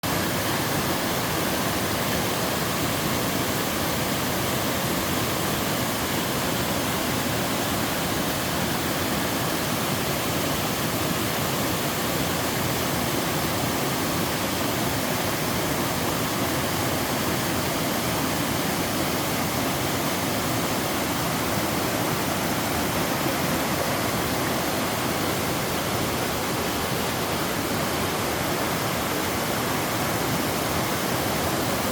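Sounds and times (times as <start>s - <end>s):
waterfall rushing over rock: 0.0s - 31.9s.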